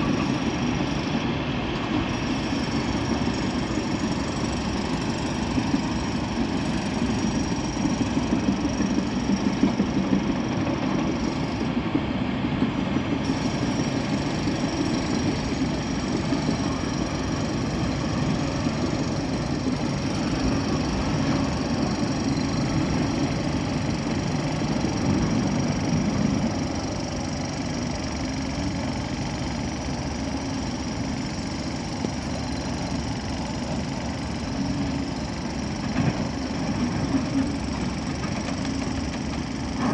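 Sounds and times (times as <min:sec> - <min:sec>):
diesel engine: 0:00.0 - 0:39.9.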